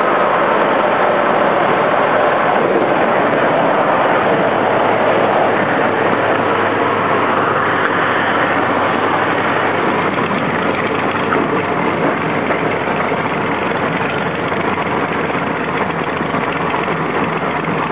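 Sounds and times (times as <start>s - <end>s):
propeller plane engine: 0.0s - 17.9s
rushing air: 0.0s - 17.9s.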